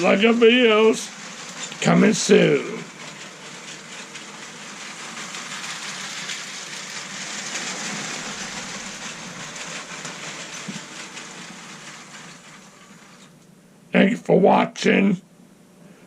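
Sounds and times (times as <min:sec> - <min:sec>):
toy train motor whirring rattle: 0:00.0 - 0:13.4.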